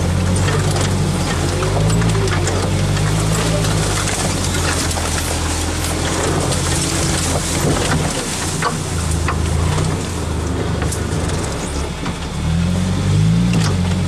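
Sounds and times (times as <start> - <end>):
branches brushing against vehicle: 0.0 - 14.0
vehicle engine running at low revs: 0.0 - 14.0.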